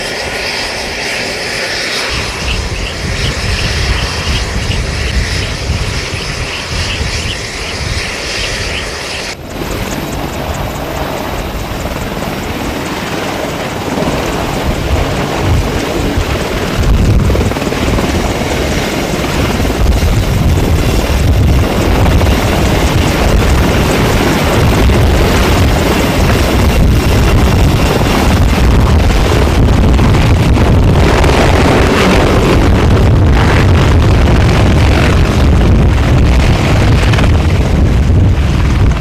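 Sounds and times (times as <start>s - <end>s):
helicopter rotor and turbine noise: 0.0s - 39.0s.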